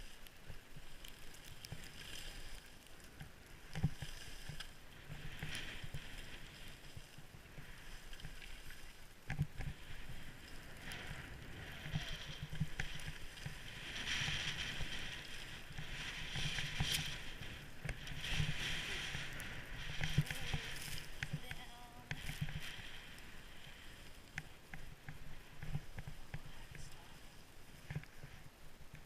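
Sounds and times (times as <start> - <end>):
skis swishing over snow: 0.0 - 28.5
wind rumble on microphone: 0.0 - 29.0.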